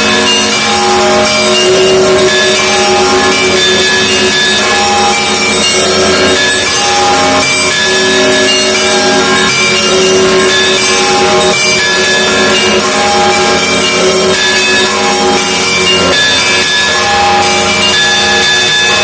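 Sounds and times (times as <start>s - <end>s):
church bells ringing together: 0.0s - 19.0s.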